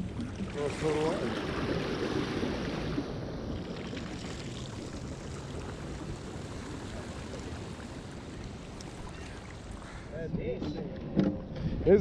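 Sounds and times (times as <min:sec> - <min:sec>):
lake water washing at shore: 0:00.0 - 0:10.2.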